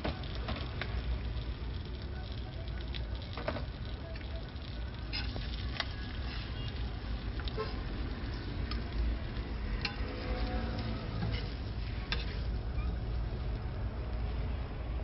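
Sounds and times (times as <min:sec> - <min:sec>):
metal tongs and spatula on griddle: 0:00.0 - 0:14.4
street traffic rumble: 0:00.0 - 0:15.0.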